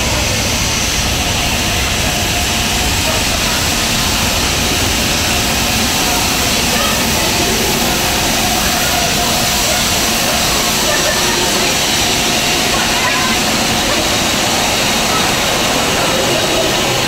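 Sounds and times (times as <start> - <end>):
steam locomotive hissing steam: 0.0 - 17.0.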